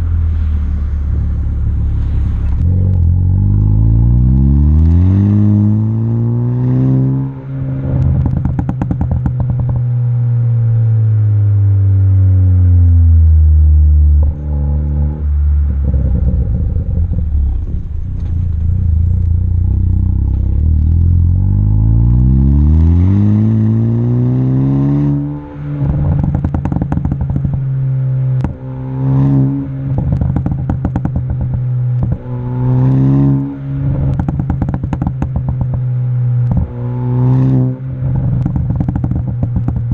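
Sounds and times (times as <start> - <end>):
exhaust popping and crackling: 0.0 - 4.3, 5.8 - 10.8, 14.1 - 22.3, 25.0 - 39.9
car engine revving: 0.0 - 39.9.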